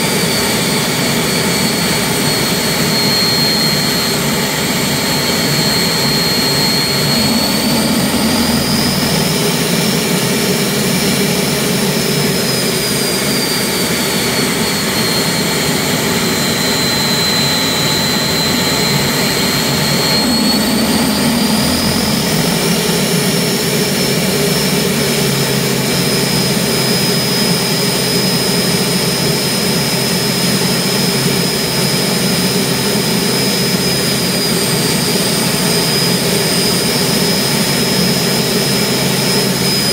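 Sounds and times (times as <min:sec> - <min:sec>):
gas turbine engine whine: 0:00.0 - 0:39.9.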